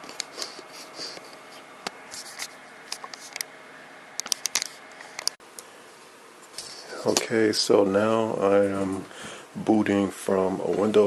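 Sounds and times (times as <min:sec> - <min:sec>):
computer whirring: 0:00.0 - 0:11.0.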